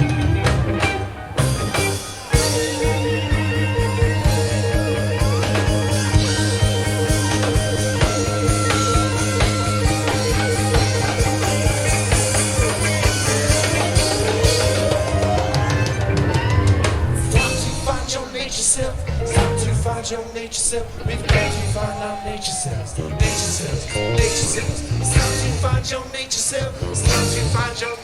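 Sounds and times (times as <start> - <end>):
drum kit beat: 0.0 - 18.4, 19.1 - 20.0, 21.2 - 26.0, 26.9 - 28.0
rising pitch glide: 0.0 - 25.8
bass: 0.0 - 28.0
guitar: 0.0 - 28.0.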